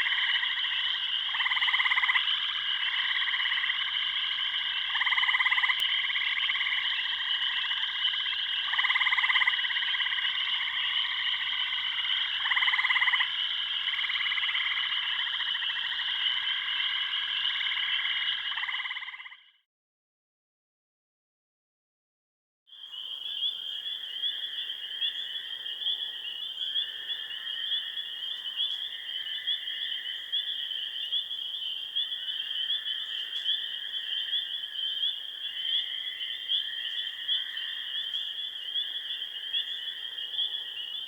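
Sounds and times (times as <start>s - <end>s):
frogs chorus calling: 0.0s - 19.6s, 22.7s - 41.0s
loud frog croak: 0.0s - 19.6s, 22.7s - 41.0s.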